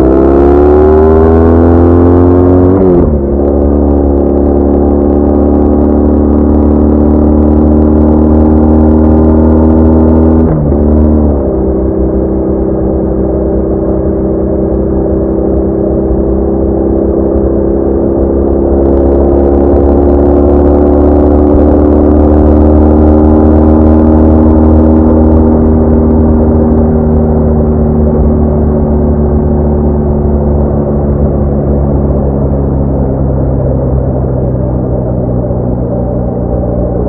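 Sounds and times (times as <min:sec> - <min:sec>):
motorcycle engine cruising: 0:00.0 - 0:37.0.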